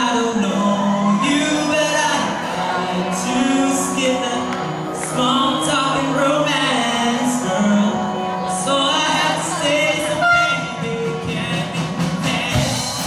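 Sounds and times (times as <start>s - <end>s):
band playing live: 0.0s - 13.0s
person singing: 0.0s - 13.0s.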